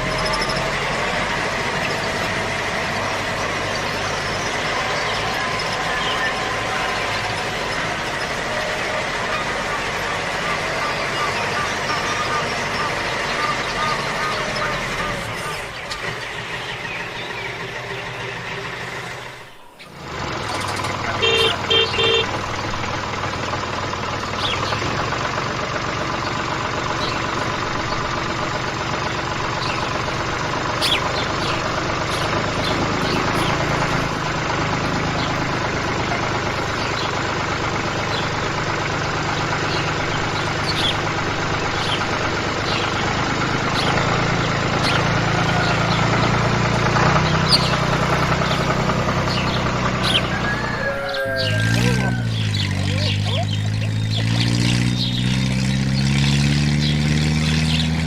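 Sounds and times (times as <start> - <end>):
toy truck engine hum: 0.0 - 58.0.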